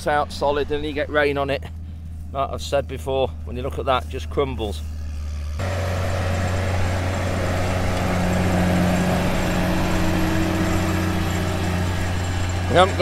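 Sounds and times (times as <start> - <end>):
cultivator rumbling through soil: 0.0 - 13.0
tractor engine under load: 0.0 - 13.0.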